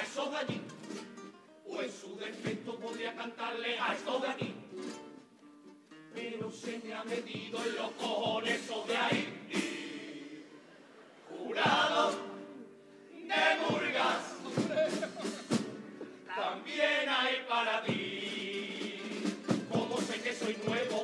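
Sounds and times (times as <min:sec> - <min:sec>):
male chorus singing: 0:00.0 - 0:00.7, 0:01.7 - 0:04.7, 0:06.2 - 0:15.6, 0:16.2 - 0:21.0.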